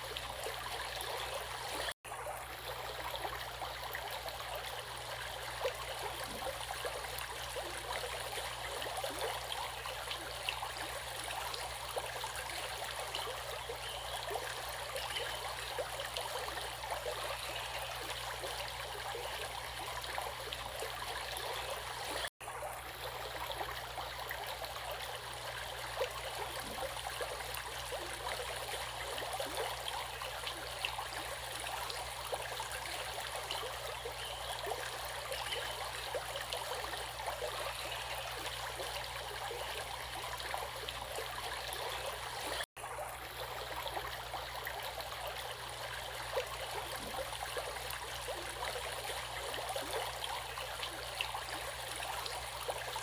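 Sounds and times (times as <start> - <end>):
stream water running: 0.0 - 53.0.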